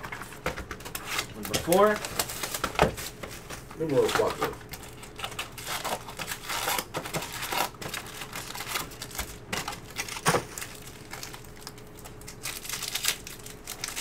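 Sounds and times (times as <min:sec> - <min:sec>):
foil packs crinkling and rustling: 0:00.0 - 0:14.0.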